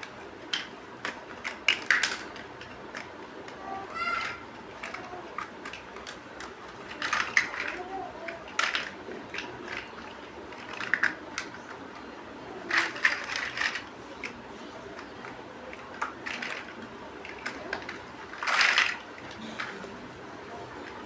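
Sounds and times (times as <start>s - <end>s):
clatter of plastic pieces: 0.1s - 20.0s
plastic bricks clicking together: 0.4s - 12.1s, 12.7s - 19.8s.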